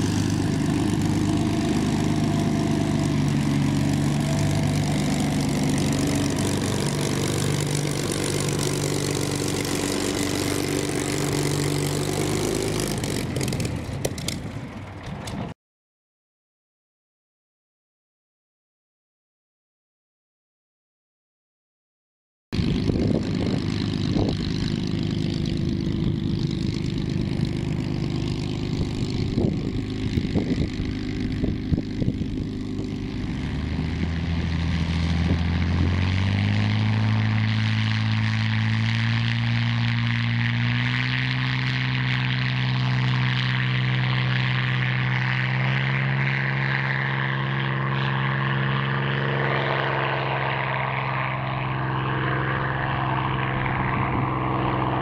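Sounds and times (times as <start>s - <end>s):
propeller aircraft engine running: 0.0s - 15.6s, 22.5s - 55.0s.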